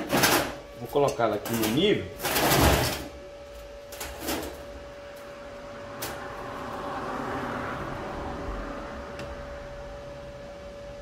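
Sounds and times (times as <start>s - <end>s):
workshop hum: 0.0s - 11.0s.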